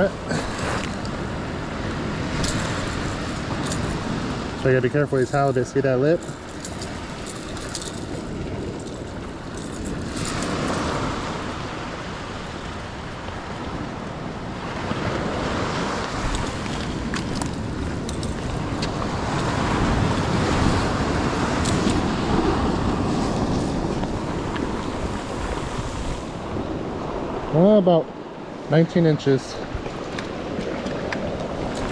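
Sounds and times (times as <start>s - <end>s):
ocean surf breaking: 0.0s - 31.9s
wind buffeting microphone: 0.0s - 31.9s.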